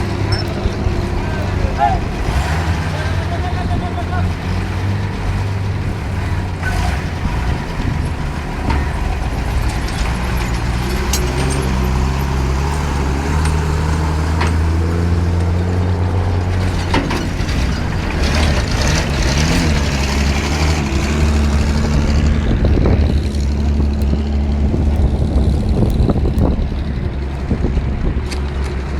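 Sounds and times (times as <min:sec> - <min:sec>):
knocks and clanks: 0:00.0 - 0:24.2
diesel truck engine: 0:00.0 - 0:28.9.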